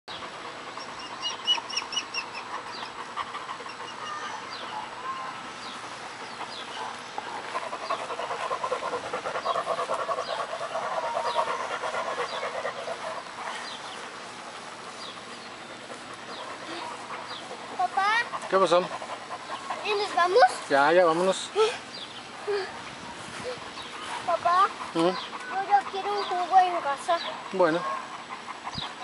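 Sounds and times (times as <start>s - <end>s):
birds chirping: 0.1s - 29.0s
dogs panting: 0.1s - 29.0s.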